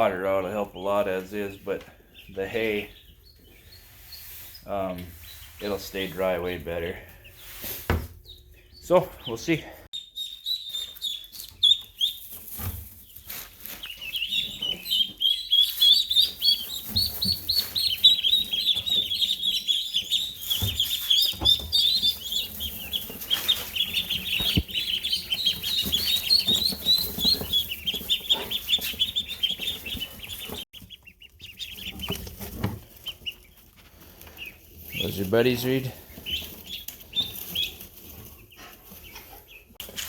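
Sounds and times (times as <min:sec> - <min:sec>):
ducklings peeping: 0:00.0 - 0:40.0.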